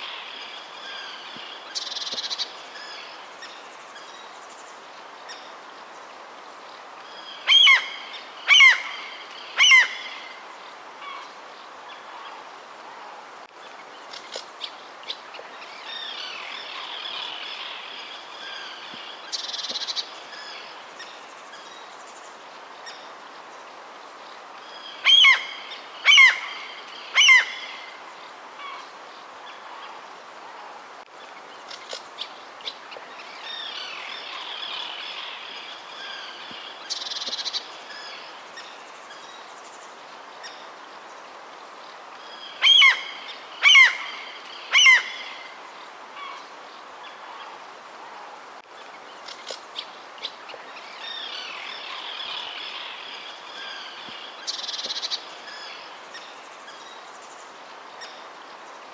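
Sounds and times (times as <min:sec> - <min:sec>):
steady background hiss: 0:00.0 - 0:58.9.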